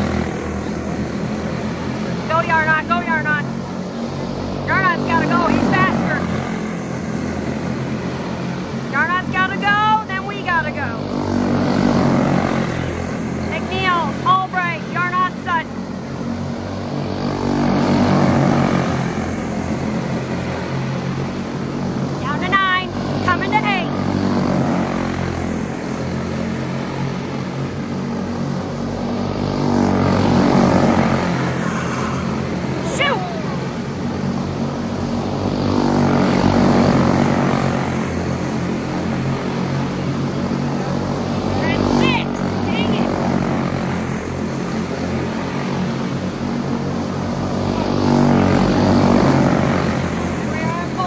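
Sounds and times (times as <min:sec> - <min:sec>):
race car engines running: 0:00.0 - 0:51.0.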